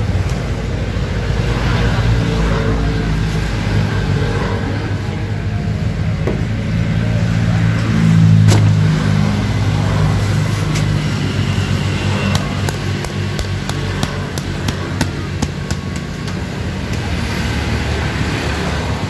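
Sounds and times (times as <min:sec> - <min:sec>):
passing road traffic: 0:00.0 - 0:19.0.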